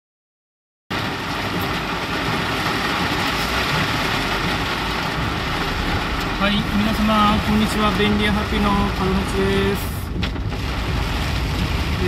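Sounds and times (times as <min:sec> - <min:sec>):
car engine and tyres on wet road: 0:00.9 - 0:12.0
heavy rain on car roof: 0:00.9 - 0:12.0.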